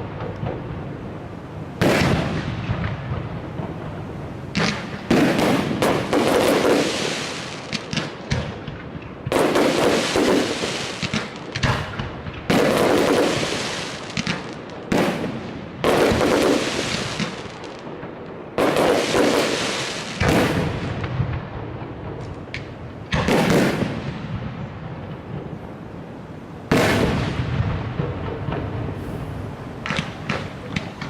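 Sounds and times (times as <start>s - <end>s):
fireworks bursting with crackling: 0.0s - 31.0s.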